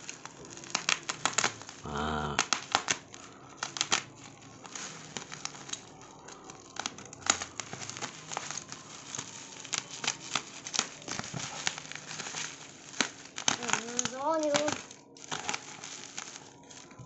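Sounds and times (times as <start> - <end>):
bubble wrap crinkling and crackling: 0.0 - 17.0.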